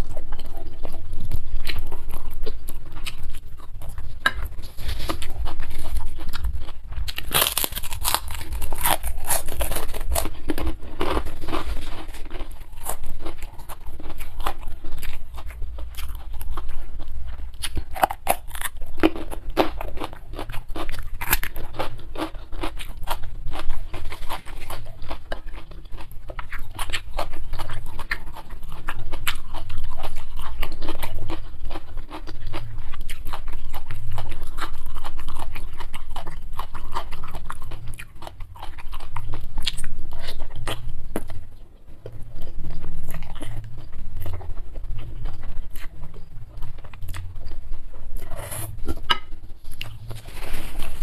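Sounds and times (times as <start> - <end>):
chewing crunchy food: 0.0 - 51.0.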